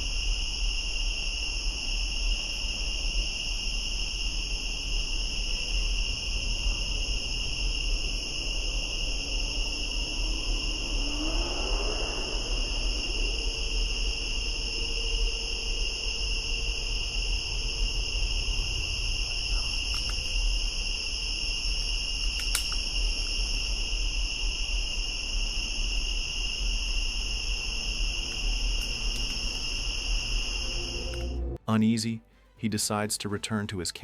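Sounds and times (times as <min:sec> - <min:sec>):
crickets trilling: 0:00.0 - 0:32.2
low background rumble: 0:00.0 - 0:33.3.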